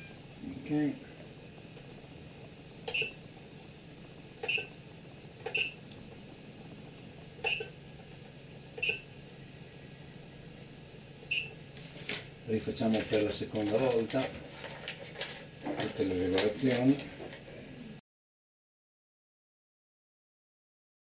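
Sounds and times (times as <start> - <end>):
low fan hum: 0.0 - 18.0.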